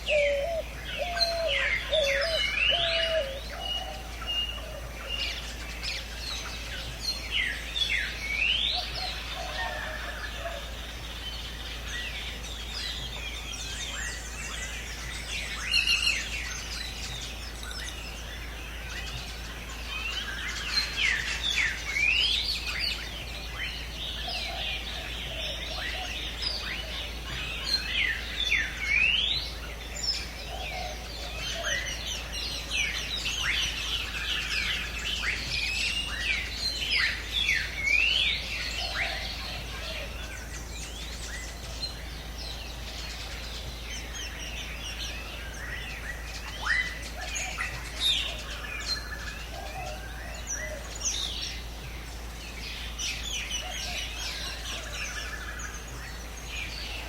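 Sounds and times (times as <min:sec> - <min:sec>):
birds chirping and whistling: 0:00.0 - 0:57.0.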